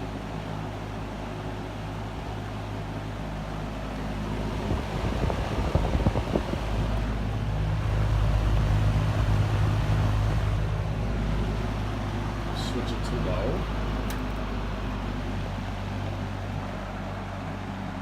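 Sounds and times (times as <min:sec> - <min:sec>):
box fan motor hum and air rush: 0:00.0 - 0:18.0.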